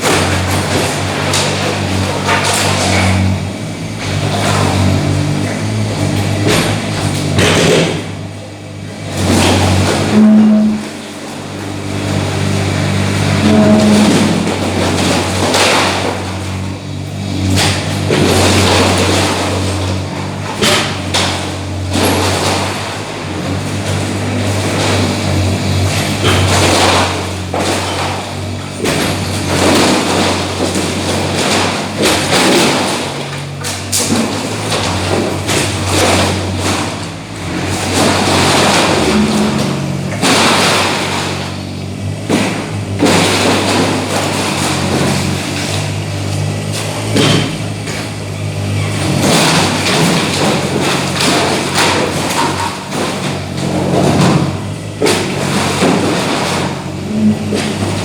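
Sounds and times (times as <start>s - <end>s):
bursts of rough noise: 0.0s - 58.0s
excavator diesel engine running: 0.0s - 58.0s
knocks thuds and clattering: 0.0s - 58.0s.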